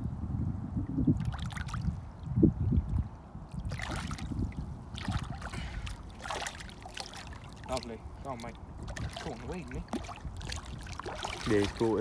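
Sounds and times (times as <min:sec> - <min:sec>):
wind on microphone: 0:00.0 - 0:12.0
water sloshing and splashing: 0:01.1 - 0:12.0.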